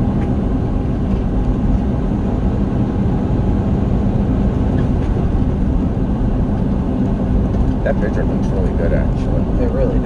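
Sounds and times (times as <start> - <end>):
truck engine and tyre drone: 0.0 - 10.0.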